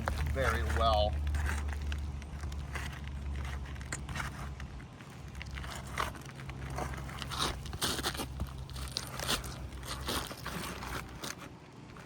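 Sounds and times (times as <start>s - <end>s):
roof shingles crackling and scraping: 0.0s - 12.0s
steady low hum: 0.0s - 12.0s.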